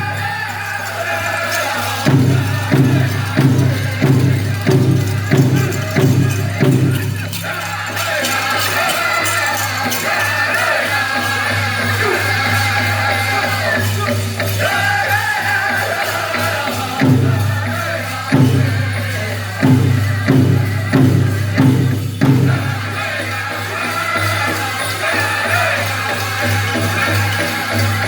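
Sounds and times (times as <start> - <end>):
group singing high-pitched vocals: 0.0 - 28.0.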